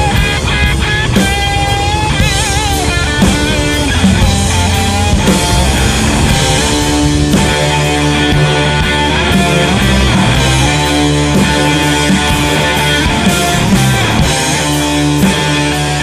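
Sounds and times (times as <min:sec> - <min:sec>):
electric guitar vibrato notes: 0:00.0 - 0:16.0
rock music: 0:00.0 - 0:16.0.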